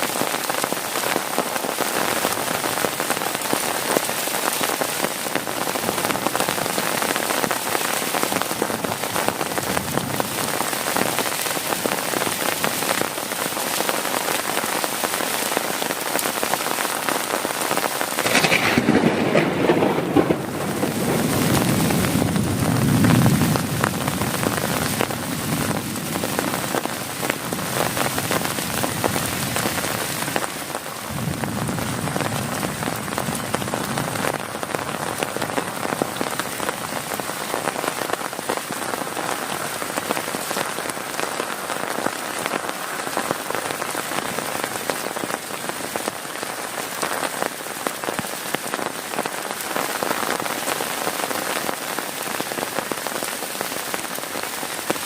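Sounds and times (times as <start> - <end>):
heavy rain on plastic tarp: 0.0 - 55.0.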